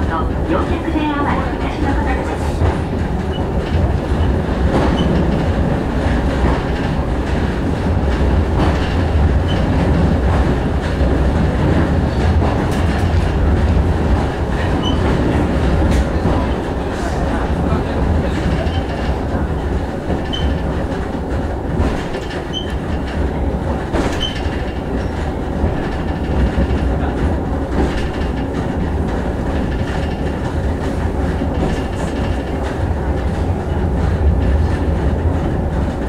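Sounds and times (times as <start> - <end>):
funicular car rumbling on track: 0.0 - 36.0.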